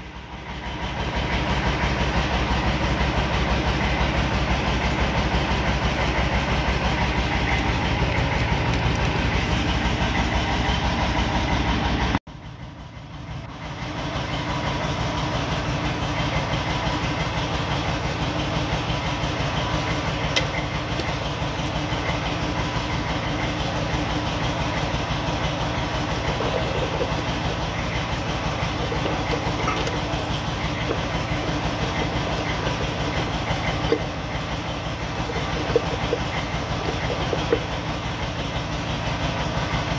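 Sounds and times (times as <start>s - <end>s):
machine running with fast rattle: 0.0s - 39.9s.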